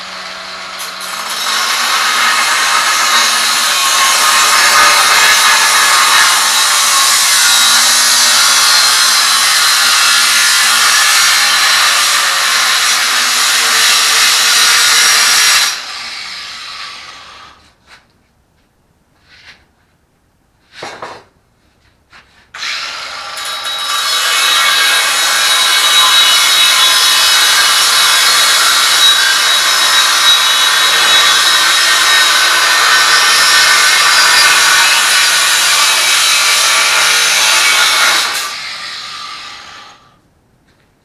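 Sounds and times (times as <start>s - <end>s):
angle grinder grinding: 0.0s - 17.6s, 22.6s - 40.1s.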